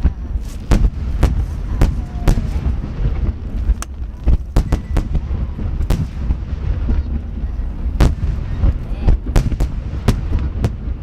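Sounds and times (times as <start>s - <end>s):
firework shells bursting: 0.0s - 11.0s
low rumble of rolling echoes: 0.0s - 11.0s.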